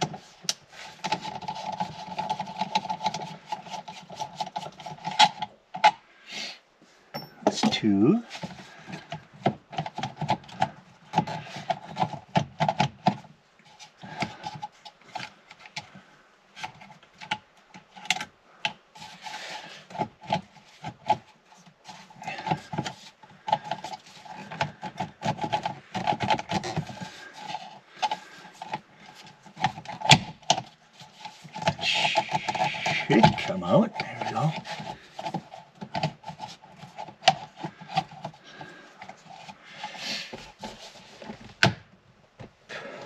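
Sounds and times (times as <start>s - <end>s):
plastic clicking and scraping: 0.0s - 6.0s, 8.3s - 42.6s.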